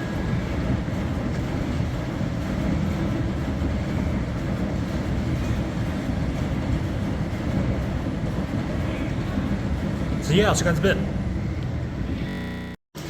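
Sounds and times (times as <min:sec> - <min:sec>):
washing machine drum rumbling: 0:00.0 - 0:10.8.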